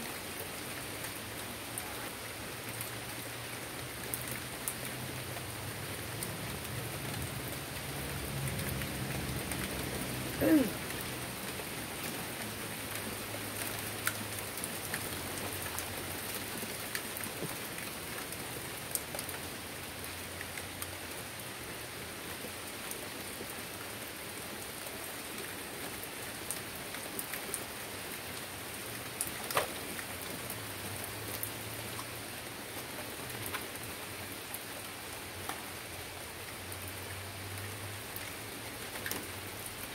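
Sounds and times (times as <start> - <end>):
rain on wooden deck and leaves: 0.0 - 39.9.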